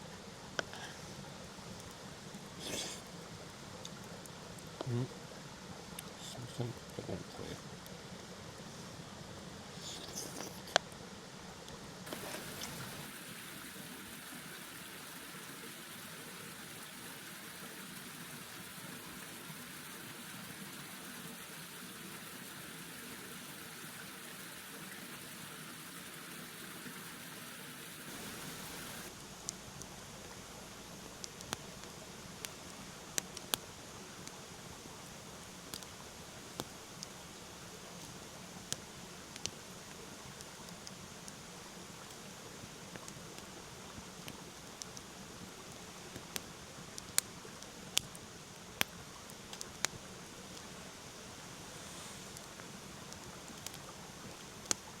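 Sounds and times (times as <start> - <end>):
campfire crackling: 0.0 - 55.0
mountain stream flowing: 0.0 - 55.0
steady hiss: 0.0 - 55.0.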